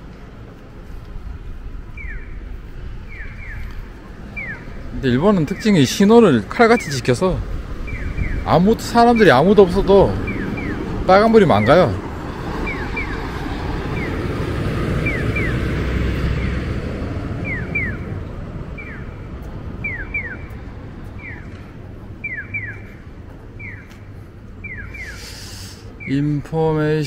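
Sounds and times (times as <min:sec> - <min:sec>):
passing traffic: 0:00.0 - 0:27.0
crossing signal chirps: 0:01.9 - 0:07.2, 0:07.8 - 0:12.0, 0:12.6 - 0:14.4, 0:15.0 - 0:16.6, 0:17.3 - 0:26.6.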